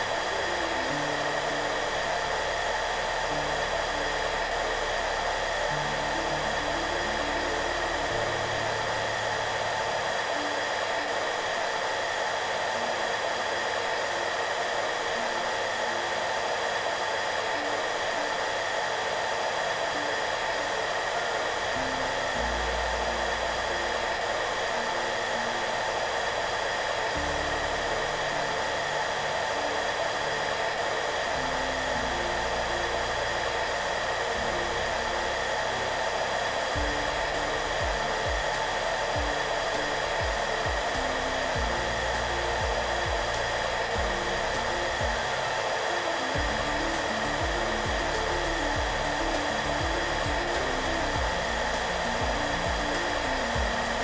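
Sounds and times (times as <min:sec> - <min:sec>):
hair dryer blowing: 0:00.0 - 0:54.0
soft background music: 0:00.0 - 0:54.0.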